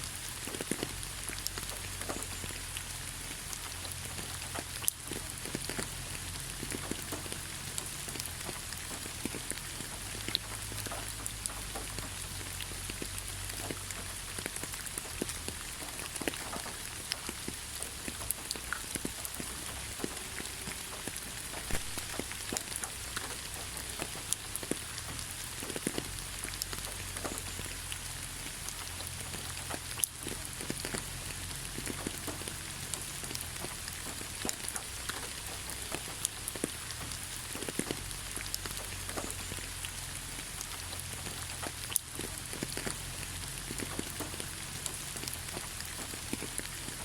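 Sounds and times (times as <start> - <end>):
rain falling on leaves: 0.0 - 47.0.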